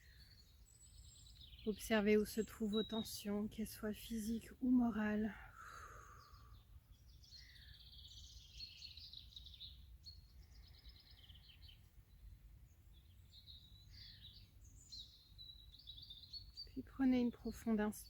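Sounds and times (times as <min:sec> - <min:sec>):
small birds trilling and chirping: 0:00.0 - 0:18.0.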